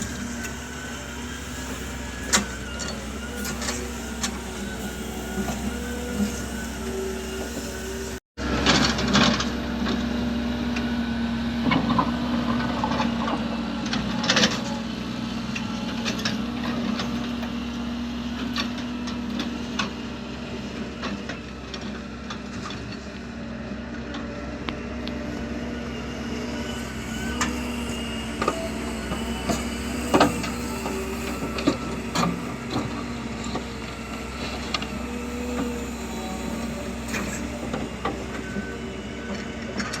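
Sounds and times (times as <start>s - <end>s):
heavy vehicle engine running: 0.0s - 40.0s.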